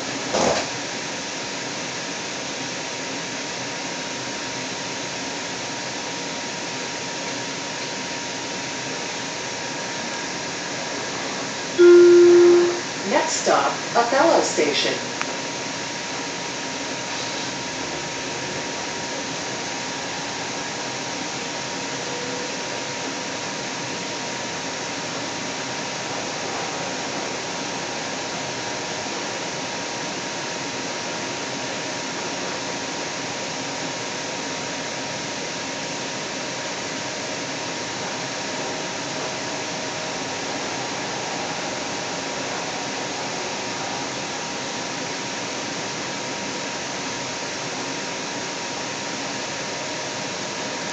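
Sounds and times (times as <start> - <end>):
light rail car running: 0.0 - 50.9.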